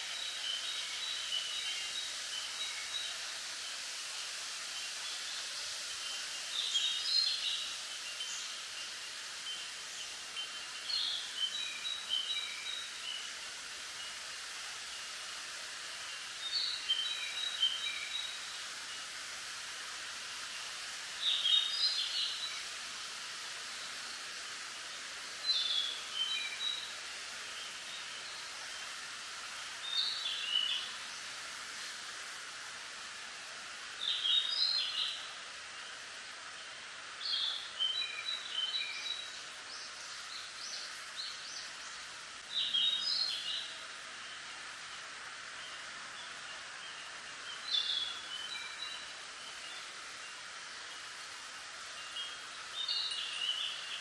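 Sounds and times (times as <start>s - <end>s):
wind rustling bamboo leaves: 0.0s - 54.0s.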